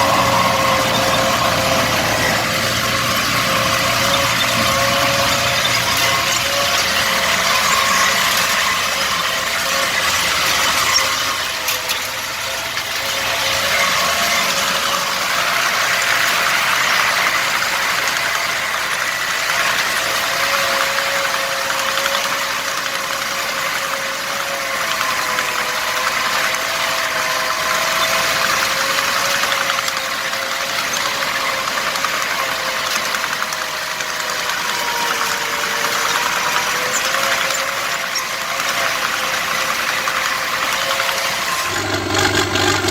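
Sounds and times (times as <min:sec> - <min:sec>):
diesel tractor engine running: 0:00.0 - 0:42.9.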